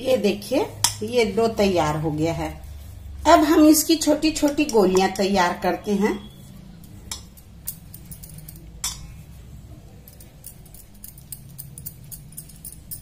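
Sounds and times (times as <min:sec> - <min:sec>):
hands kneading dough in metal bowl: 0:00.0 - 0:13.0
steady low hum: 0:00.0 - 0:13.0.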